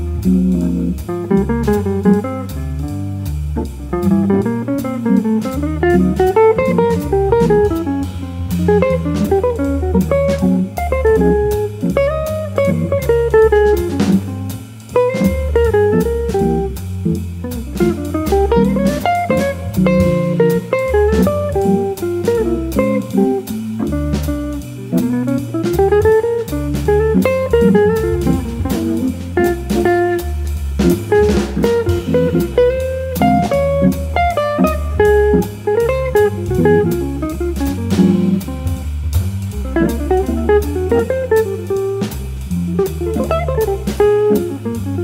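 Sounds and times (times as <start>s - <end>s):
drums on cymbals: 0.0s - 45.0s
electric guitar melody: 0.0s - 45.0s
organ walking bass line: 0.0s - 45.0s.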